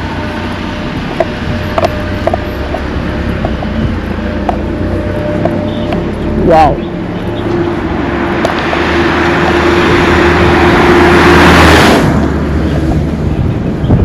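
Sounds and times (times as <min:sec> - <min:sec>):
vehicle driving past: 0:00.0 - 0:13.5.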